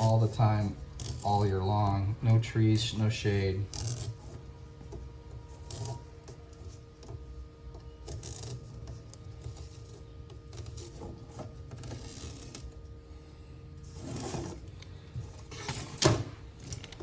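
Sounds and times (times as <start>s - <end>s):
scraping and rubbing on window screen: 0.0s - 17.0s.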